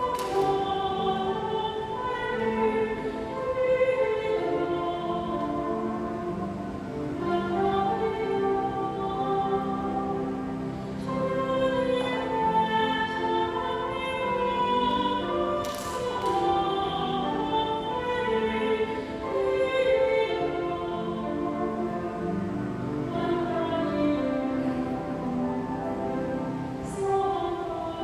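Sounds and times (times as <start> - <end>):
voices singing a hymn: 0.0 - 28.0.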